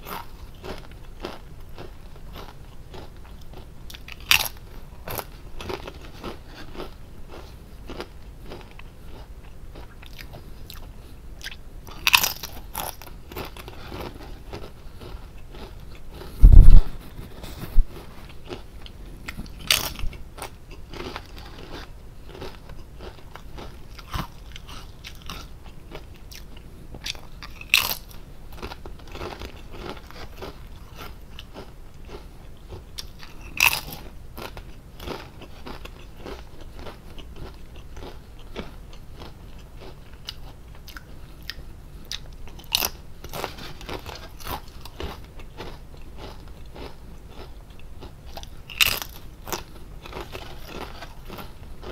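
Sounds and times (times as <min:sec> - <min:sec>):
potato chips crunching: 0:00.0 - 0:51.9.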